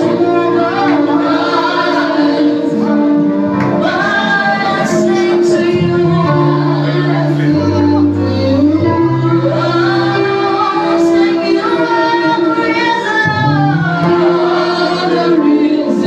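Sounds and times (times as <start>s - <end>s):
instrumental accompaniment: 0.0s - 16.0s
voices singing held notes: 0.0s - 16.0s.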